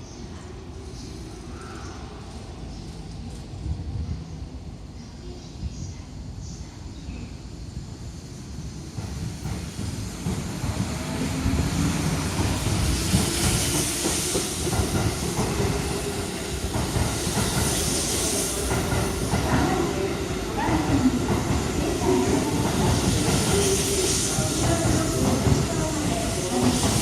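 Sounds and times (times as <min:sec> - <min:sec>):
train wheels rumbling on rail: 0:00.2 - 0:27.0.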